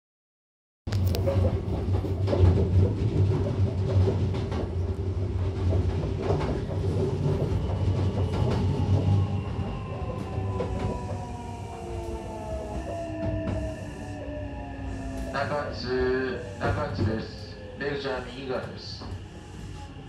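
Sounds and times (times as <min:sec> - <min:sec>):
train interior rumble: 0:00.9 - 0:20.0.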